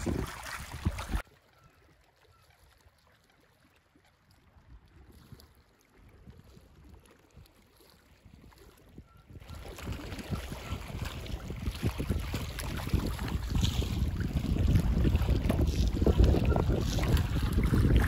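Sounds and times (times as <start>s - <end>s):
faint wind: 0.0s - 18.0s
water lapping against rocky shore: 0.0s - 18.0s.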